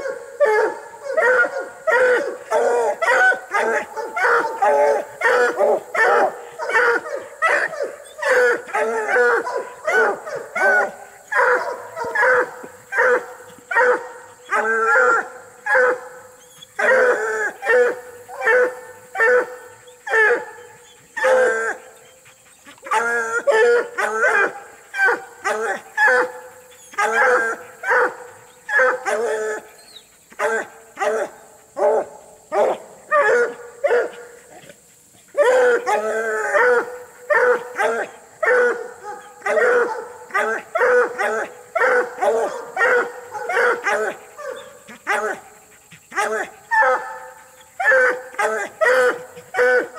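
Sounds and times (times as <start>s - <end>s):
hounds barking rapidly: 0.0s - 49.9s.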